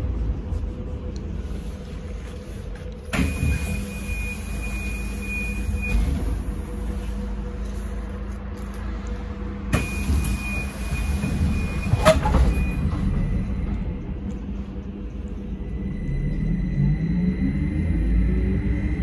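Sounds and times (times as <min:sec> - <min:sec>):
trolleybus rumble: 0:00.0 - 0:19.0.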